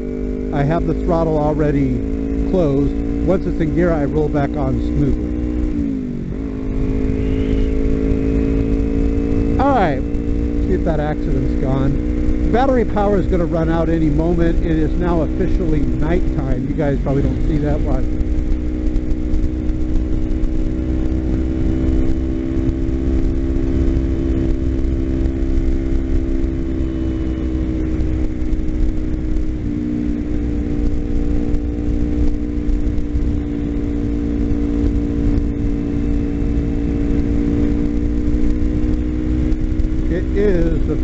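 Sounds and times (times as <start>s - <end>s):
motorcycle engine running: 0.0s - 41.0s
wind and road rumble: 0.0s - 41.0s.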